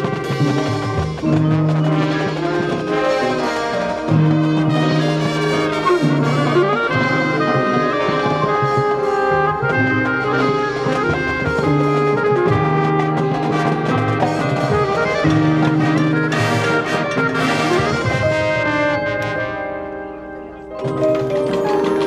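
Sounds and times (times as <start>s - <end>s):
brass holding chords: 0.0s - 22.0s
marching band playing: 0.0s - 22.0s
percussion: 0.0s - 22.0s.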